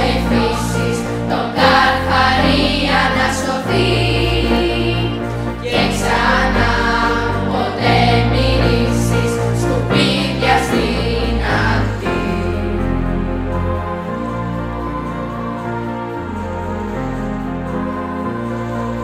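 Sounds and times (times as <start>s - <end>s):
children's choir singing: 0.0s - 19.0s
digital piano: 0.0s - 19.0s.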